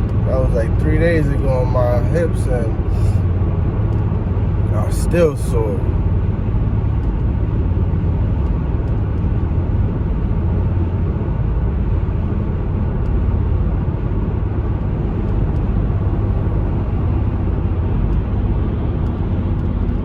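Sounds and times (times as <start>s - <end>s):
road and engine rumble in vehicle: 0.0s - 20.0s.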